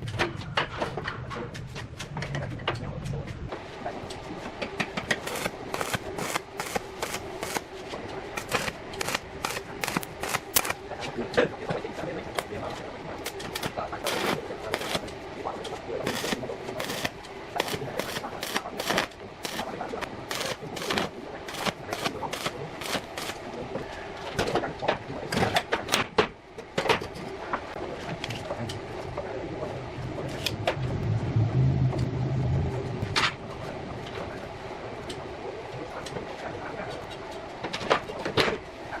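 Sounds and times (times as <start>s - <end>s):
low hum: 0.0s - 25.3s, 27.8s - 36.0s.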